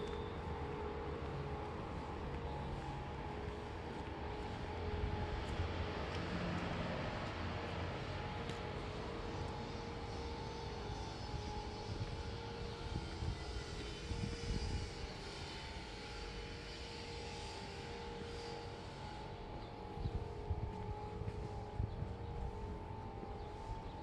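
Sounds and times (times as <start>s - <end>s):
city street low rumble: 0.0s - 24.0s
faint constant hum: 0.0s - 24.0s.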